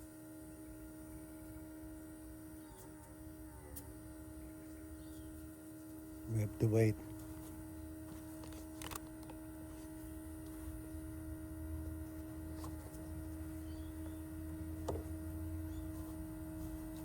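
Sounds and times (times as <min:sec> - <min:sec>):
smoke machine humming: 0:00.0 - 0:17.0.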